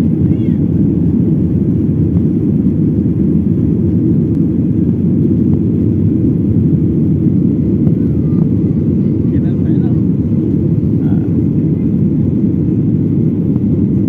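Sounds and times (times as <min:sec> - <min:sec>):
aircraft rumble: 0:00.0 - 0:14.0.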